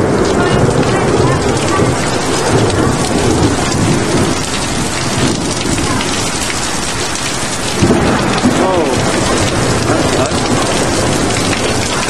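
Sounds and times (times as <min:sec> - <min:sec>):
heavy rain pouring: 0:00.0 - 0:12.0
low thunder rumble: 0:00.0 - 0:12.0.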